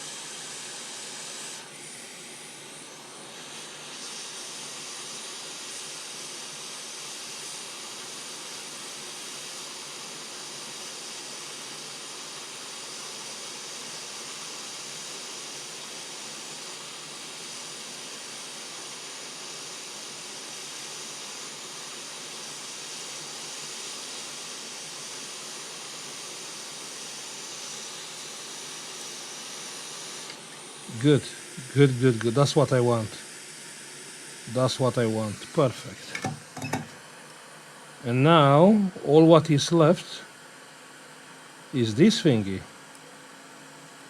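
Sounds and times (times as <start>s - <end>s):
hot air station hissing: 0.0s - 44.0s.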